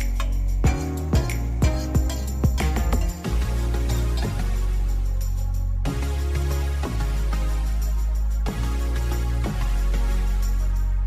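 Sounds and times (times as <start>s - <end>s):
music with deep bass beat: 0.0s - 11.0s.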